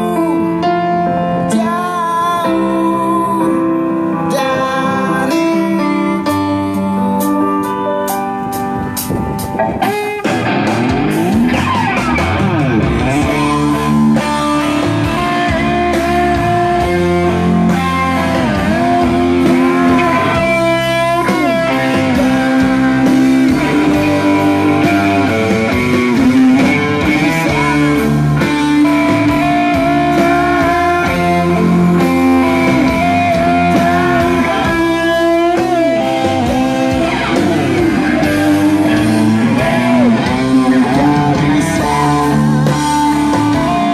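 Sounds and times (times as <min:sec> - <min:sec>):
electric guitar melody: 0:00.0 - 0:43.9.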